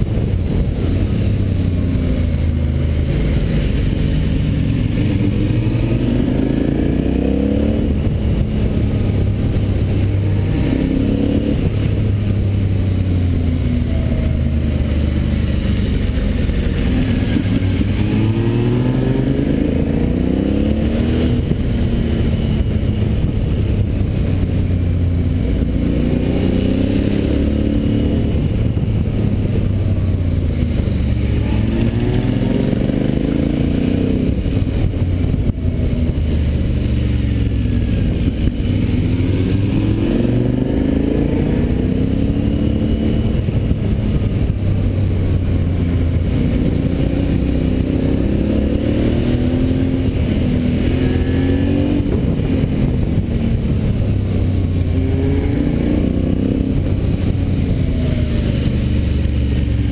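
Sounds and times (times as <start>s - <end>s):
motorcycle engine accelerating: 0.0s - 59.9s
wind and road noise: 0.0s - 59.9s.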